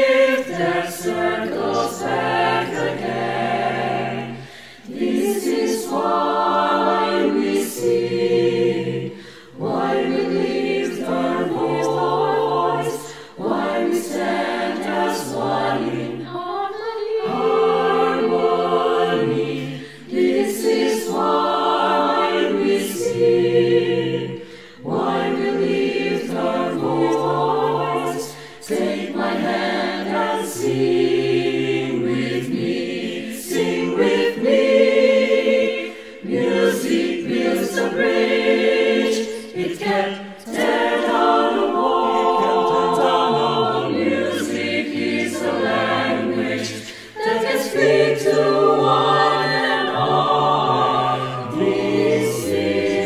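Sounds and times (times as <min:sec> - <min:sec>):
choir singing in harmony: 0:00.0 - 0:53.0.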